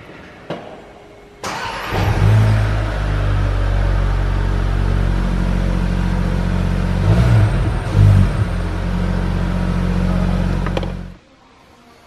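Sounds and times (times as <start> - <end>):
car engine idling: 1.5 - 11.2.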